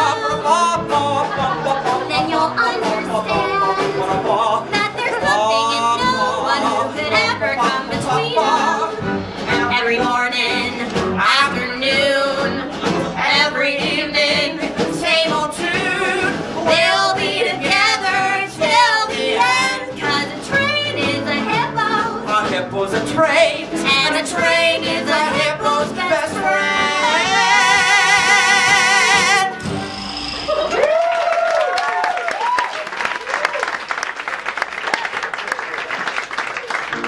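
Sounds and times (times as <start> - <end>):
person singing with vibrato: 0.0 - 30.6
musical accompaniment: 0.0 - 31.3, 36.6 - 37.0.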